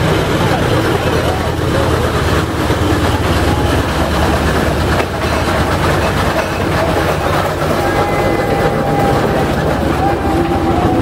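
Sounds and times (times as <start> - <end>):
steam road roller clattering: 0.0 - 11.0.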